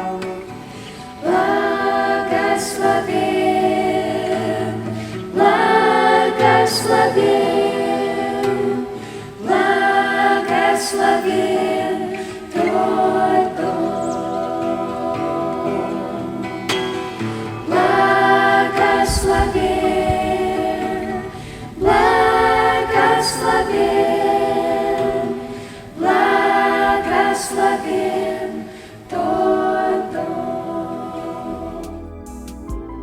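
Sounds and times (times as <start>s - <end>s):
group singing a christian song: 0.0s - 33.0s.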